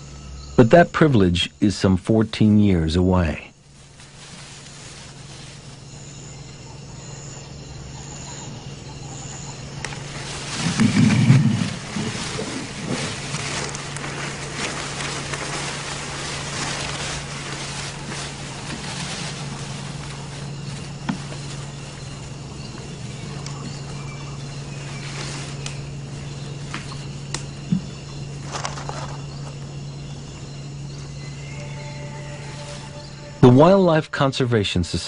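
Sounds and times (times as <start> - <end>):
constant low hum: 0.0 - 35.0
insects buzzing and chirping: 0.0 - 35.0.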